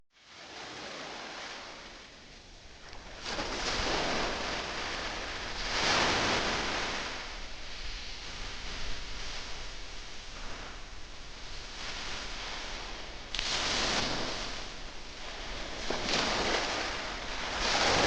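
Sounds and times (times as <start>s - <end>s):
waves breaking and washing ashore: 0.2s - 18.0s.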